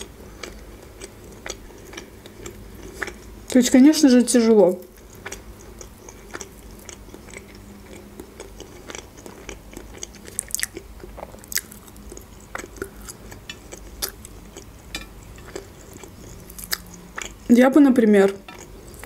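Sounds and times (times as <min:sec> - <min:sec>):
chewing and lip smacks: 0:00.4 - 0:03.3, 0:04.9 - 0:17.5.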